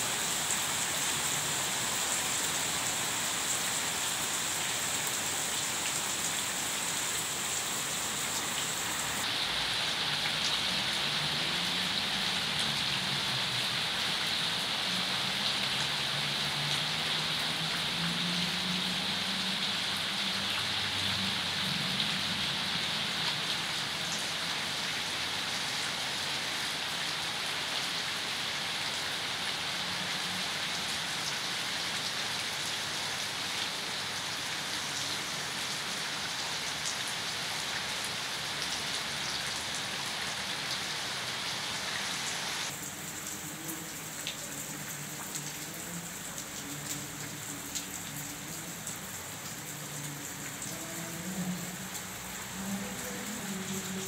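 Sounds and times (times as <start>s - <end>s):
steady hiss of rain: 0.0s - 54.0s.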